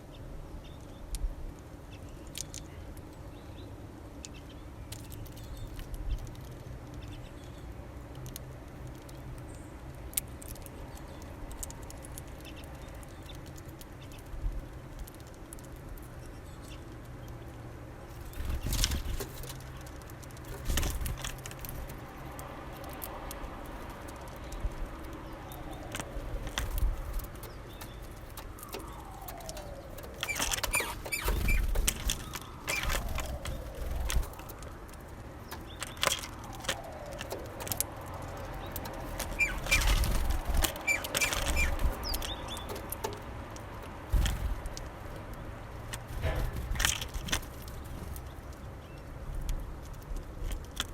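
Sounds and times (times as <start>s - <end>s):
birds pecking seeds: 0.1s - 50.9s.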